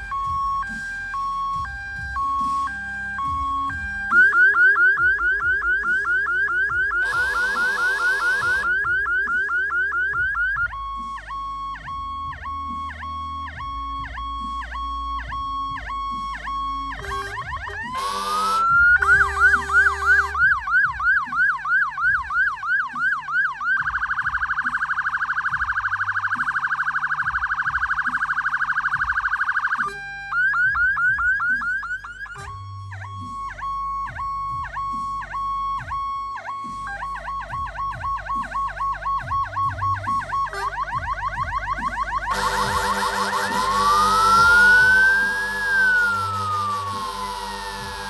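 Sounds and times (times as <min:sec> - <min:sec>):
fire engine siren: 0:00.0 - 0:48.0.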